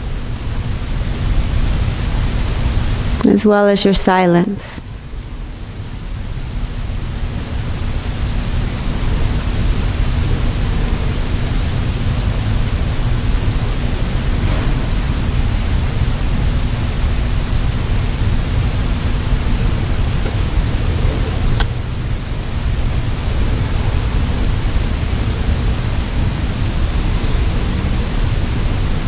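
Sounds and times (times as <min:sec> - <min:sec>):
faint hum: 0:00.0 - 0:29.0
room background hiss: 0:00.0 - 0:29.0.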